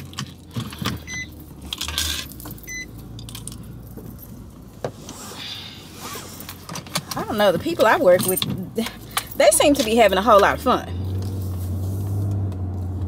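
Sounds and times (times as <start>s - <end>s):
handling clicks and rustling: 0.0s - 5.2s, 6.1s - 13.0s.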